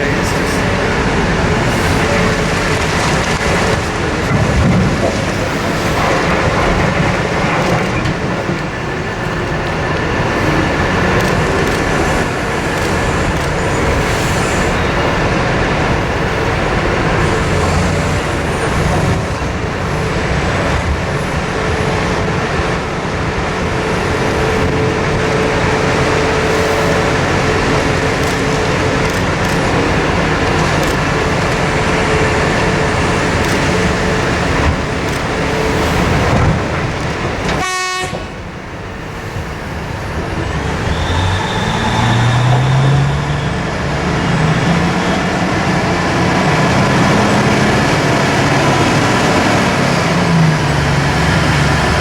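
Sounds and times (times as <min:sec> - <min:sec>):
excavator diesel engine and hydraulics: 0:00.0 - 0:52.0.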